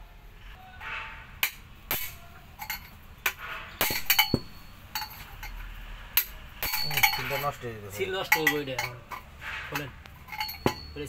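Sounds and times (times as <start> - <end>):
steel tool clinking on metal housing: 1.4 - 5.6, 6.2 - 11.0.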